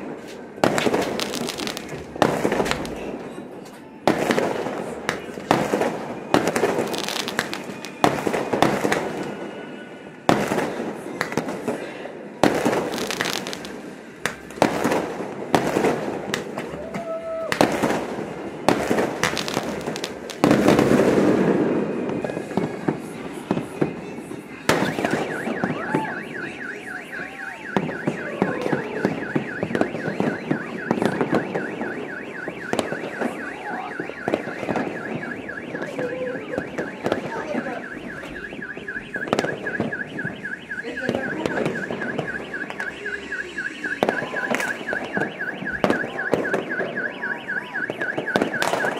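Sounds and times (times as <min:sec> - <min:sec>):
car alarm: 0:00.0 - 0:11.8, 0:12.4 - 0:16.8, 0:17.6 - 0:48.9
fireworks banging: 0:00.0 - 0:48.9.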